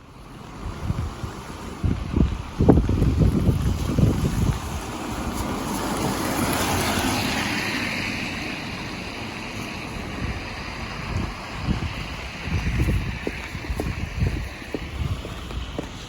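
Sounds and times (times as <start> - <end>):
vehicle passing on wet road: 0.0 - 16.0
wind on microphone: 0.5 - 16.0.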